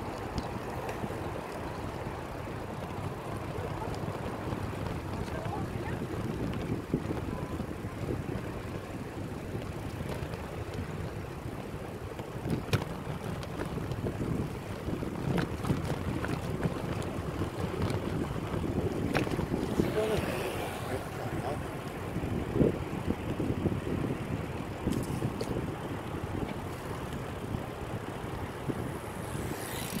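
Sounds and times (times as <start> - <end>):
bicycle rolling rumble: 0.0 - 30.0
wind buffeting microphone: 0.0 - 30.0.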